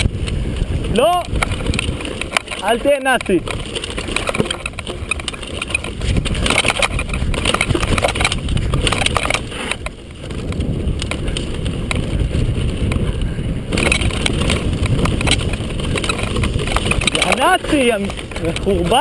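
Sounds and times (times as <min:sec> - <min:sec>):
bike rattling: 0:00.0 - 0:19.0
tyres crunching over gravel: 0:00.0 - 0:19.0
wind rumbling on microphone: 0:00.0 - 0:19.0.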